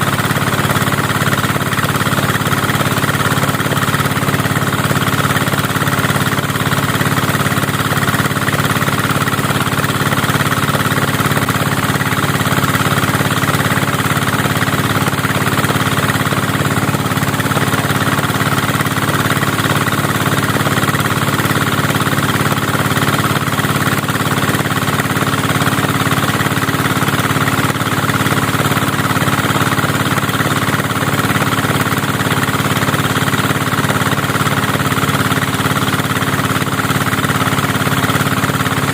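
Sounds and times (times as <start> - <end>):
threshing machine engine drone: 0.0 - 38.9.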